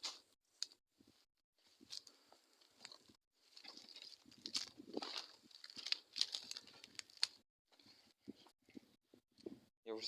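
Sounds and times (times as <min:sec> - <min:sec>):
dry grass and twigs rustling: 0:00.0 - 0:09.6.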